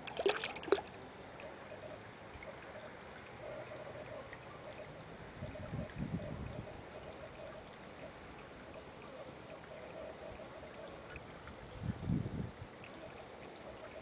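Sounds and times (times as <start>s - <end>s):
water trickling into a pond: 0.0s - 14.0s.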